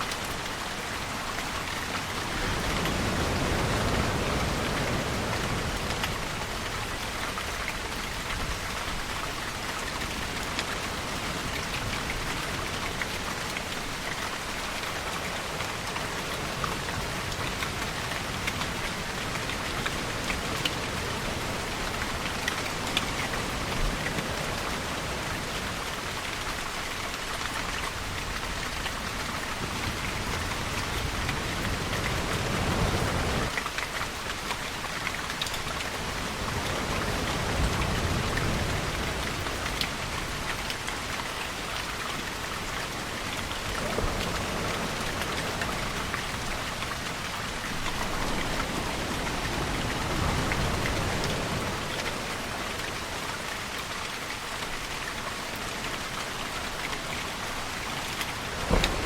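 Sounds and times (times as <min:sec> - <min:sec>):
rain falling on surface: 0:00.0 - 0:59.0.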